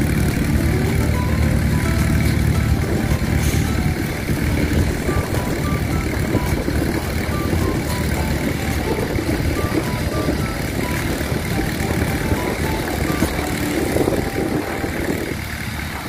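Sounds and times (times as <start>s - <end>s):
machinery engines rumbling: 0.0s - 16.0s
short high notes: 0.0s - 16.0s.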